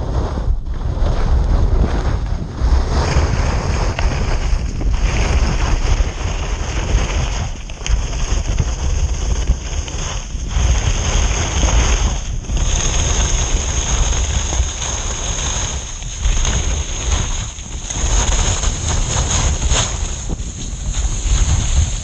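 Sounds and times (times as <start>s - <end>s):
skis scraping through snow: 0.0s - 22.0s
wind buffeting microphone: 0.0s - 22.0s.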